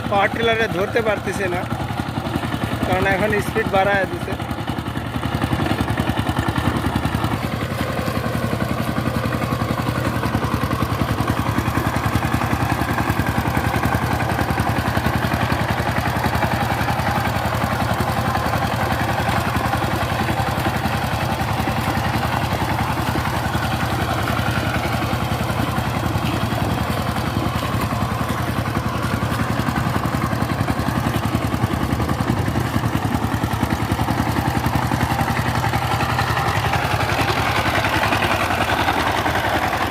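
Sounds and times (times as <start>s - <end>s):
tiller diesel engine chugging: 0.0s - 39.9s.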